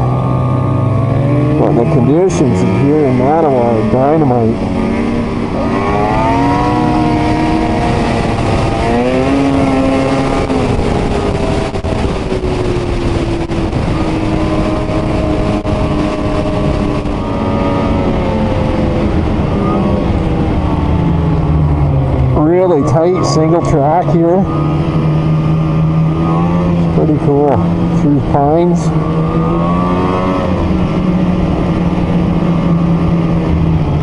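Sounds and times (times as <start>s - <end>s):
snowmobile engine revving: 0.0s - 34.0s.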